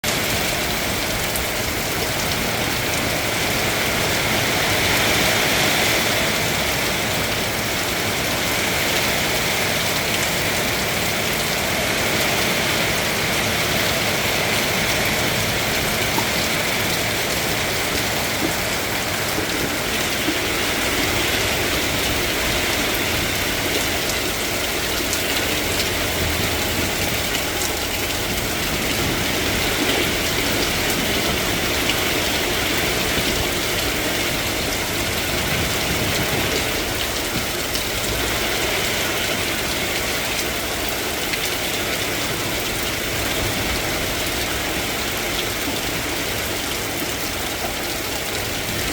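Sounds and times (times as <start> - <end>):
steady rain hiss: 0.1 - 48.9.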